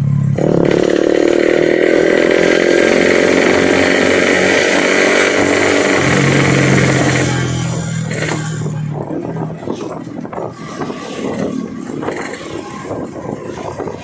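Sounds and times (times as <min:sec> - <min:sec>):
two-stroke motorcycle engine revving: 0:00.0 - 0:14.0.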